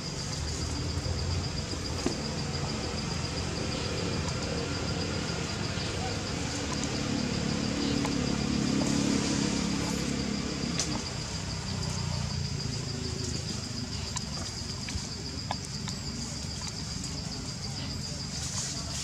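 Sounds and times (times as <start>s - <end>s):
high-pitched insect drone: 0.0s - 19.0s
passing vehicle engine rumble: 0.0s - 19.0s.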